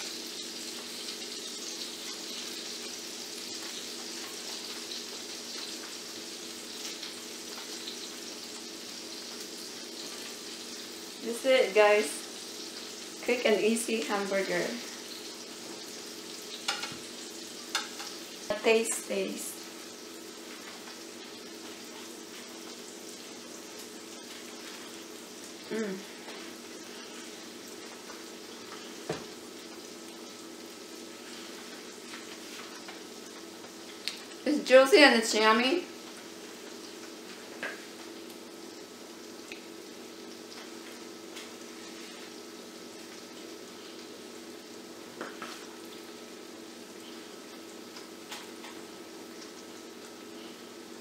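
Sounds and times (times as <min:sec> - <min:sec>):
food frying in a pan: 0:00.0 - 0:51.0
sizzling hiss: 0:00.0 - 0:51.0.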